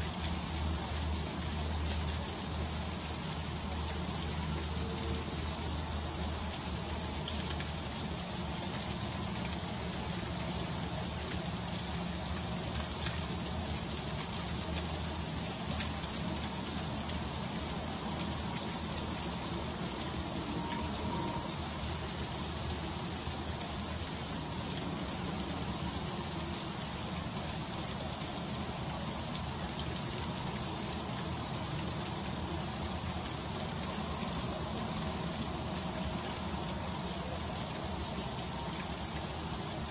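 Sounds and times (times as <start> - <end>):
freezing rain ticking on ice: 0.0 - 39.9.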